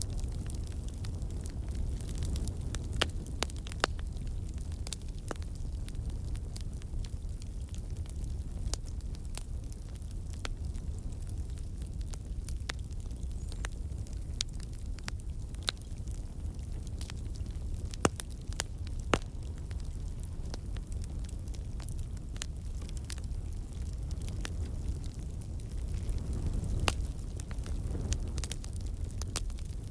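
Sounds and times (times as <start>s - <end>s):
campfire flames rumbling: 0.0s - 29.9s
wood crackling and popping: 0.0s - 29.9s.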